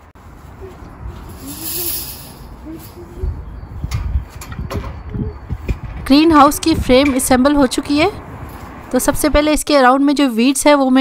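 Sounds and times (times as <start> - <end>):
wind rumbling on microphone: 0.0 - 9.8.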